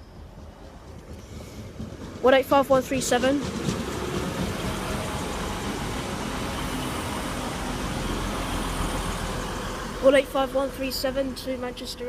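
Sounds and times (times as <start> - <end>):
diesel train running: 0.0 - 12.0.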